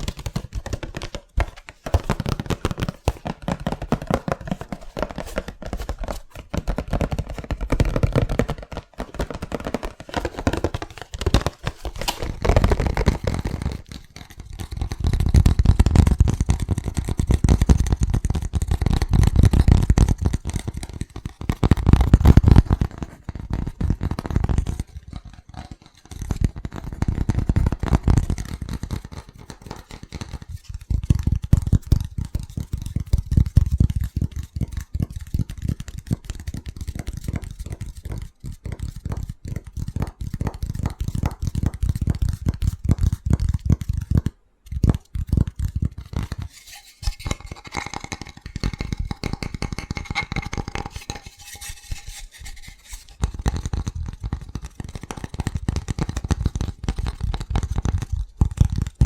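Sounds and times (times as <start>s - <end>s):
fast tapping on object: 0.0s - 59.0s.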